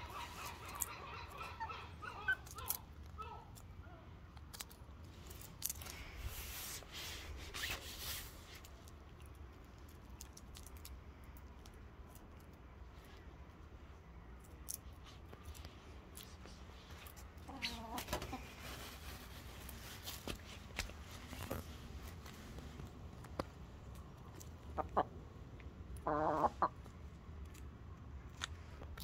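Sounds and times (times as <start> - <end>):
hens pecking and scratching: 0.0 - 29.0.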